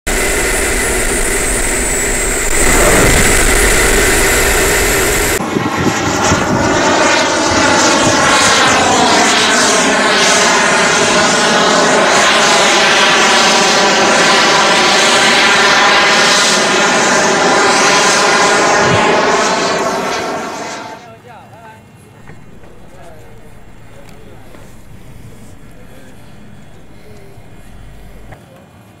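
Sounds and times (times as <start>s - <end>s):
high thin turbine whine: 0.1s - 21.0s, 22.2s - 28.4s
jet turbine engines roaring: 0.1s - 21.1s, 21.9s - 28.4s.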